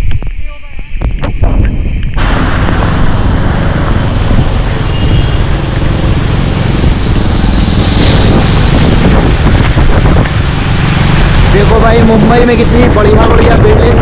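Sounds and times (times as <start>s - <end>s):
wind on microphone: 0.0s - 14.0s
motorcycle road noise: 1.4s - 14.0s.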